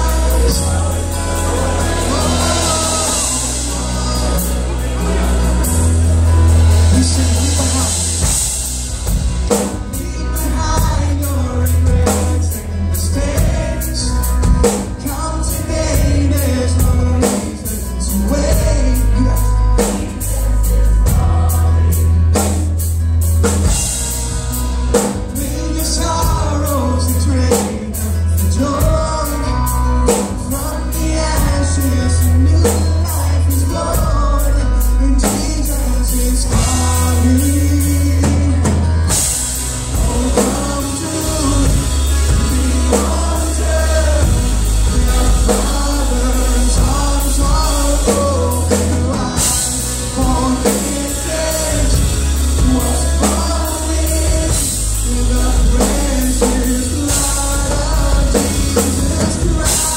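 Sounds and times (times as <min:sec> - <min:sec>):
heavy bass: 0:00.0 - 0:59.9
live band playing: 0:00.0 - 0:59.9.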